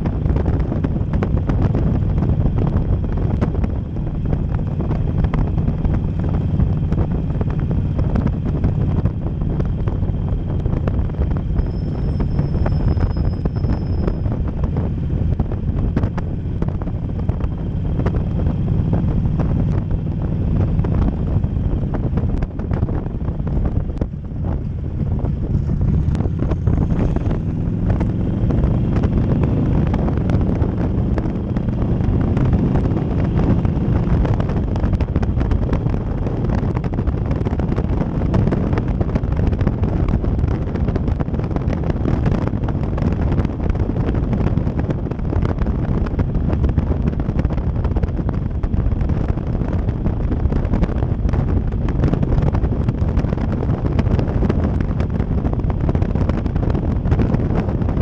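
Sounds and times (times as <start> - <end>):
motorcycle engine accelerating: 0.0 - 58.0
wind buffeting microphone: 0.0 - 58.0.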